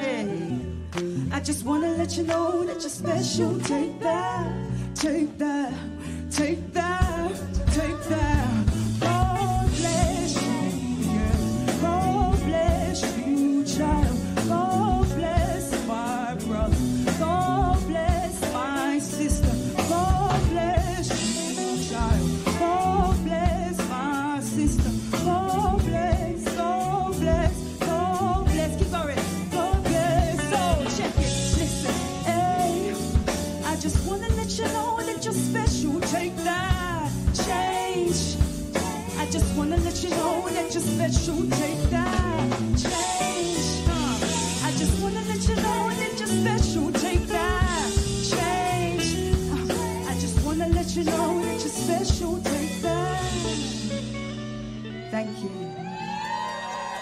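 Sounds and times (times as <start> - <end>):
backing singers: 0.0 - 5.5, 6.2 - 54.1, 54.9 - 57.0
live soul band playing: 0.0 - 57.0
woman singing lead vocal: 0.0 - 57.0.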